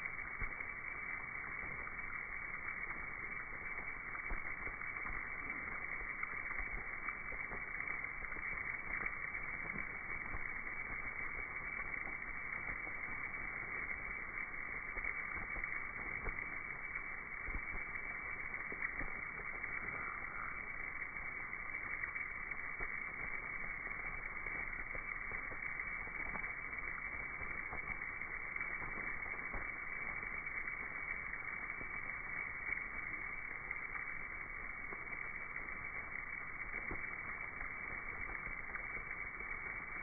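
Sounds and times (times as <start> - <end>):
faint ticks: 0.0 - 40.0.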